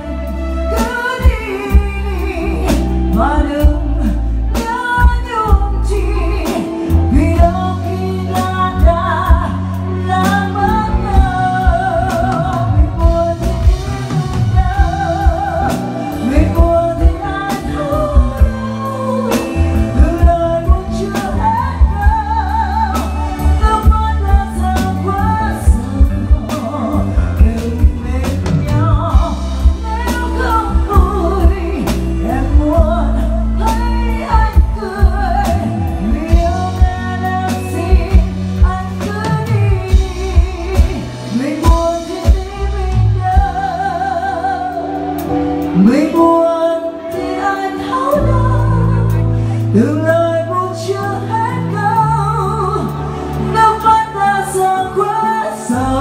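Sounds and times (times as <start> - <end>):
electric guitar: 0.0 - 56.0
woman singing into microphone: 0.0 - 56.0.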